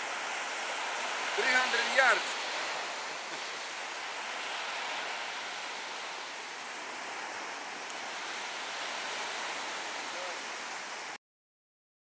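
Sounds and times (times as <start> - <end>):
ocean surf washing onto beach: 0.0 - 11.2.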